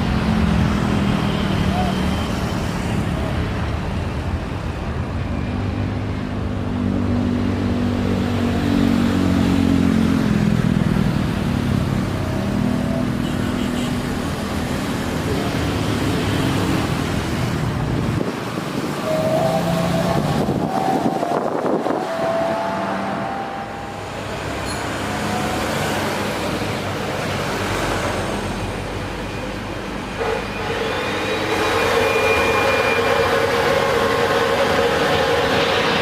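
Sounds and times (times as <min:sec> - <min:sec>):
passing vehicles: 0:00.0 - 0:36.0.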